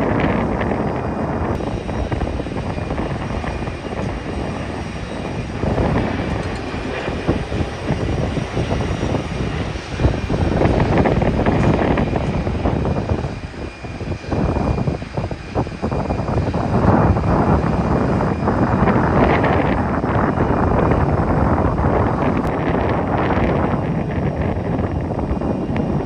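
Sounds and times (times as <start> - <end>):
jet engines rumbling: 0.0 - 26.0
wind buffeting microphone: 0.0 - 26.0.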